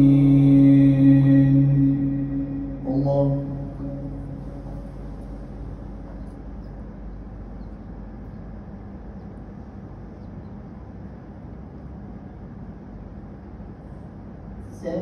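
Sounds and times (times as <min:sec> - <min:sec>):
low rumbling room noise: 0:00.0 - 0:15.0.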